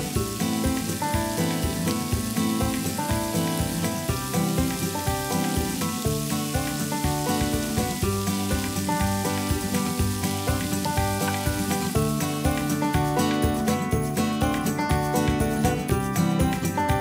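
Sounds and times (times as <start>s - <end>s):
background music with steady beat: 0.0s - 17.0s
chicken sizzling in oil: 0.0s - 17.0s.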